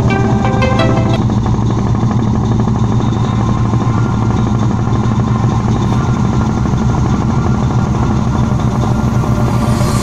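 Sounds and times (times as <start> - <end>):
tugboat diesel engine droning: 0.0 - 10.0.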